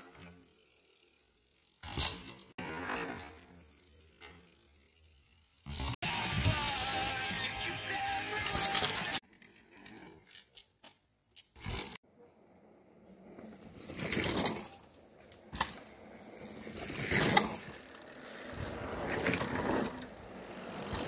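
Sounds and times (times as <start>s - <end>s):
bike tyres rolling over dirt: 0.0s - 12.0s, 13.0s - 21.0s.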